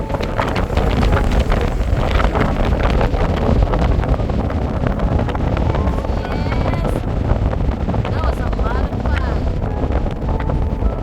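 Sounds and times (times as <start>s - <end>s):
faint voices: 0.0s - 11.0s
wind buffeting microphone: 0.0s - 11.0s.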